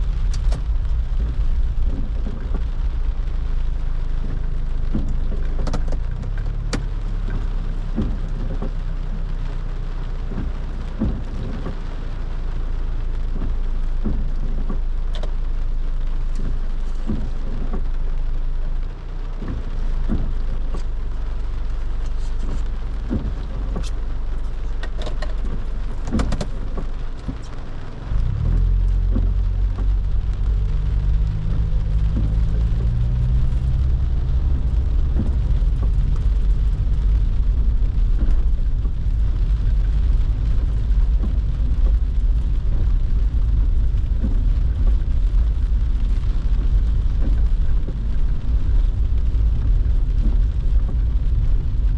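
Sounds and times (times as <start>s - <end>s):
car engine hum: 0.0s - 51.9s
rain pattering on a car: 0.0s - 51.9s.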